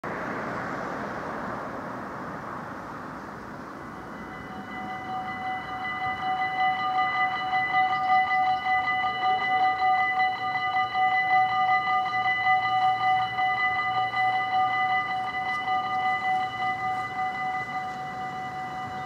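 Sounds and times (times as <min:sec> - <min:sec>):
rushing noise: 0:00.0 - 0:19.0
level crossing warning bells: 0:03.4 - 0:19.0.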